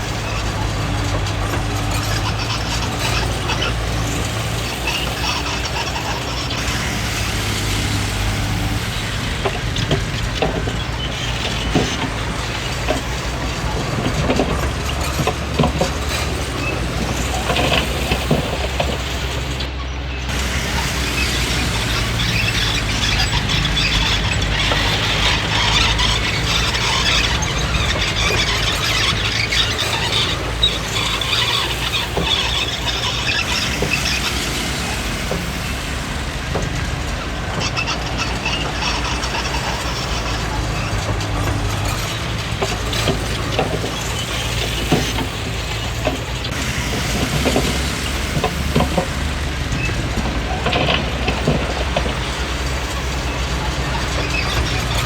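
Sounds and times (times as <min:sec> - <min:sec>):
diesel engine running: 0:00.0 - 0:55.0
steel tracks squealing: 0:00.0 - 0:55.0.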